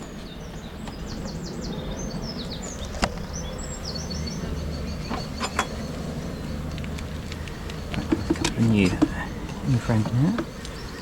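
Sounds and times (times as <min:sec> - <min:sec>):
bees humming: 0:00.0 - 0:11.0
small birds chirping: 0:00.0 - 0:11.0.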